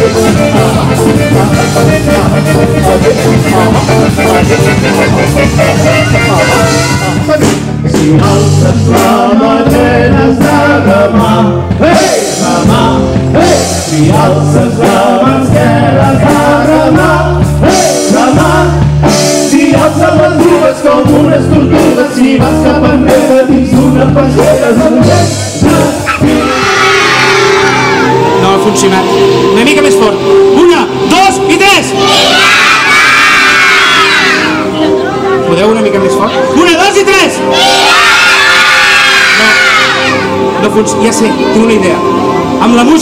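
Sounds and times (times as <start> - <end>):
upbeat children's song: 0.0 - 43.0.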